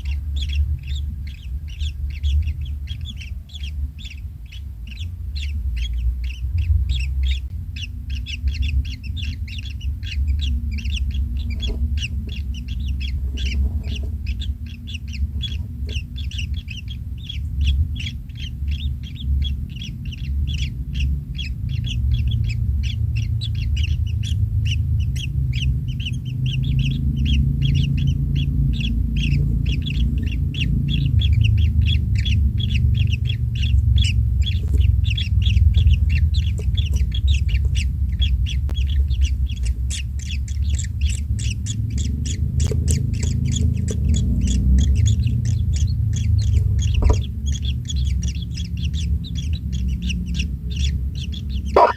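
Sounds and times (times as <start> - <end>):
low rumble: 0.0 - 51.9
nestlings cheeping: 0.0 - 51.9.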